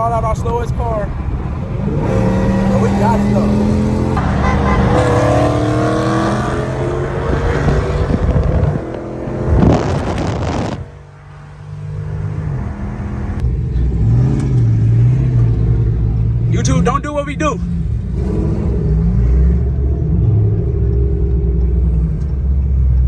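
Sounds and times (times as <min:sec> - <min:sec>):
car engines accelerating: 0:00.0 - 0:23.0
engine revving: 0:00.9 - 0:23.0.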